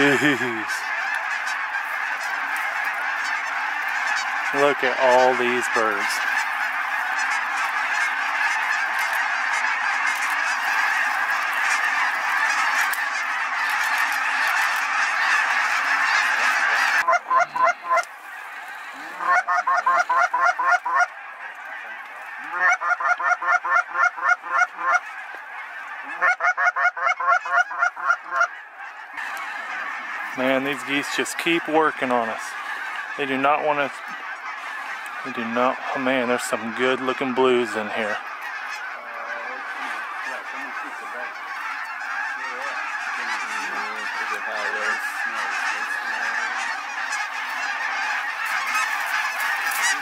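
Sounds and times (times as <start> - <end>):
flock of geese honking: 0.0 - 50.0.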